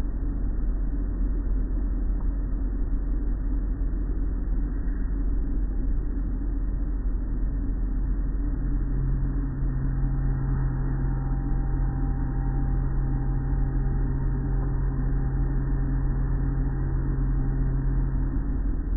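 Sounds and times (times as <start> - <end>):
low rumble of motors and water: 0.0 - 18.9
machine hum: 0.0 - 18.9.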